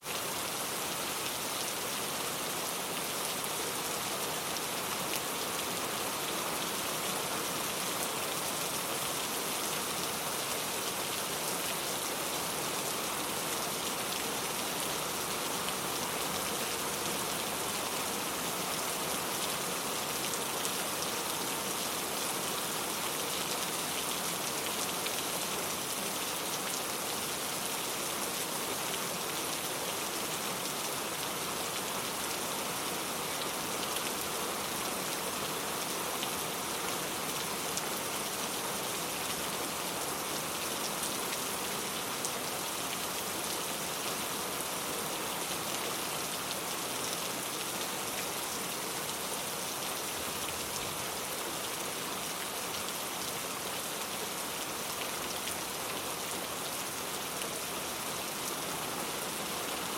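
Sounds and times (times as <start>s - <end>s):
dense rain falling: 0.0s - 59.9s.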